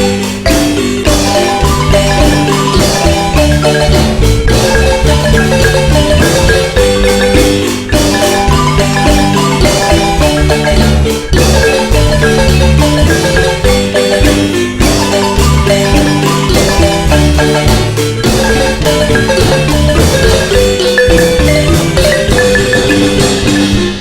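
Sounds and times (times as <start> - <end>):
bass line: 0.0 - 24.0
marimba melody: 0.0 - 24.0.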